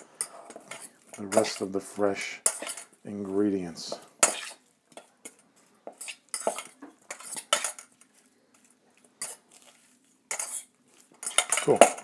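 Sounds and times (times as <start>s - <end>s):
utensil scraping a bowl: 0.0s - 3.4s, 4.2s - 12.0s.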